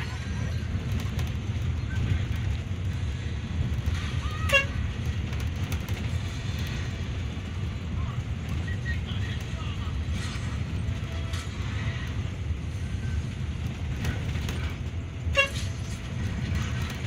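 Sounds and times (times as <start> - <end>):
bus engine rumble inside cabin: 0.0 - 17.0.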